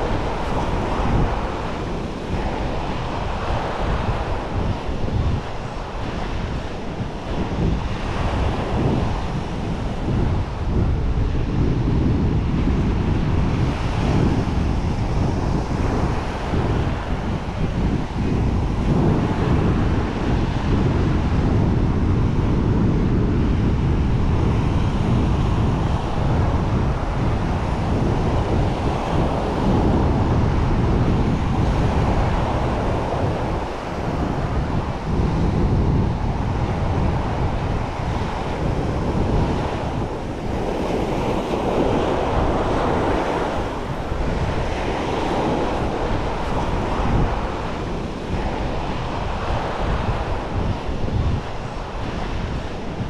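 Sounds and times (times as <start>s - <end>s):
sea waves washing on shore: 0.0s - 53.0s
wind buffeting microphone: 0.0s - 53.0s.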